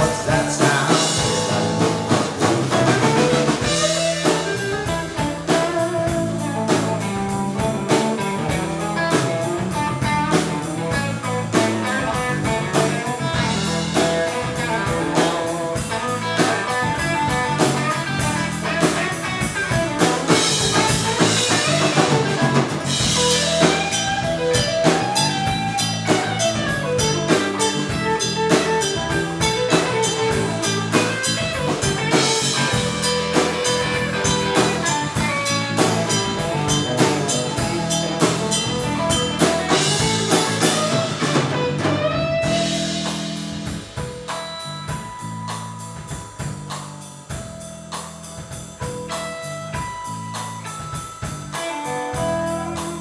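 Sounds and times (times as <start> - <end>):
acoustic-electric guitar: 0.0 - 44.4, 51.5 - 53.0
electric guitar: 0.0 - 47.4, 48.4 - 53.0
bass guitar: 0.0 - 53.0
drum kit steady beat: 0.0 - 53.0.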